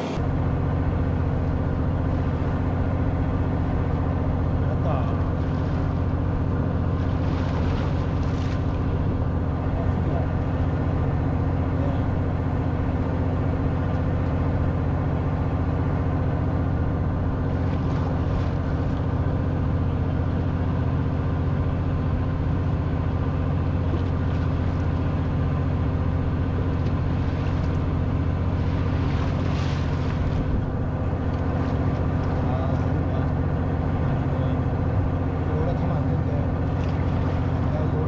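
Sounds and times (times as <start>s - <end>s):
boat engine humming: 0.0s - 38.0s.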